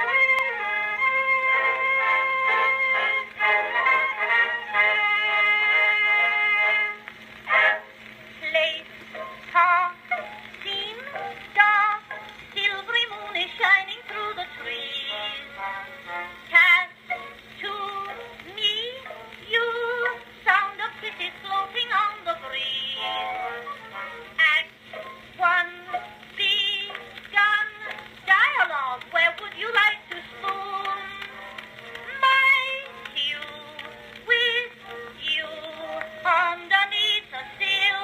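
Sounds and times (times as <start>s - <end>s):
woman singing with vibrato: 0.0s - 8.9s, 9.5s - 23.6s, 24.3s - 24.8s, 25.4s - 31.4s, 32.0s - 38.0s
faint steady hum: 0.0s - 38.0s
instrumental accompaniment: 0.0s - 38.0s.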